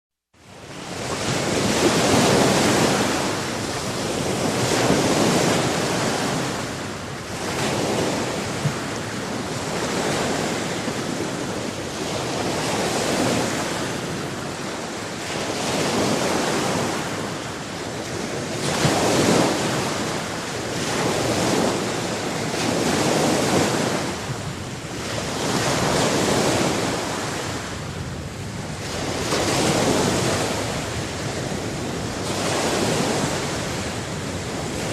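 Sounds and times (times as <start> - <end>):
sea waves washing onto shore: 0.6 - 34.9.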